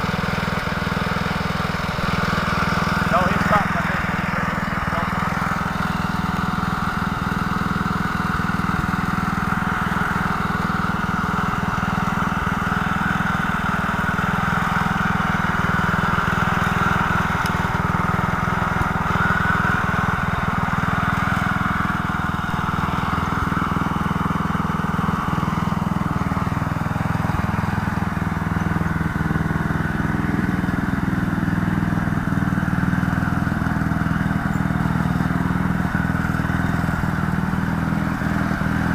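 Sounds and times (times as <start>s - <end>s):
small engine running steadily: 0.0s - 38.9s.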